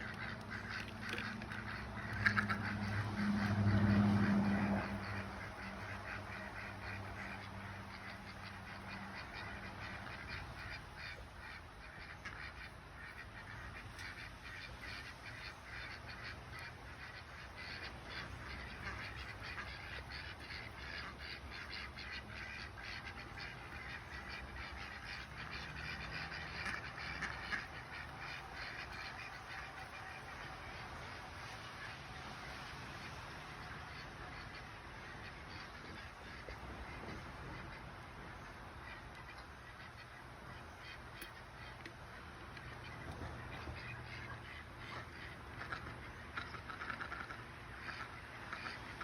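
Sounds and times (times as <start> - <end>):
ducks quacking: 0.0 - 49.0.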